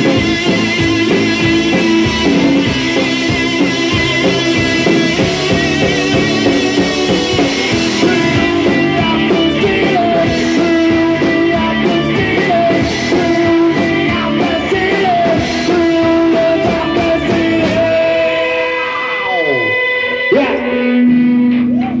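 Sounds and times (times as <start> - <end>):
bass guitar: 0.0 - 22.0
drum kit: 0.0 - 22.0
electric guitars holding long notes: 0.0 - 22.0.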